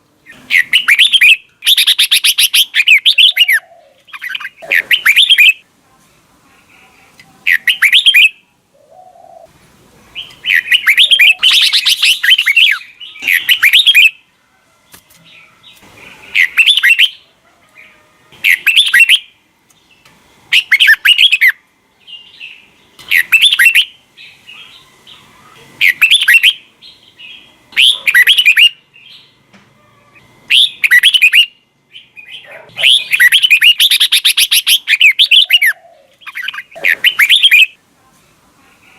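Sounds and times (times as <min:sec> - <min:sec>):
bird singing warbled phrases: 0:00.2 - 0:05.7, 0:07.4 - 0:09.5, 0:10.1 - 0:14.3, 0:15.3 - 0:29.4, 0:30.2 - 0:37.8.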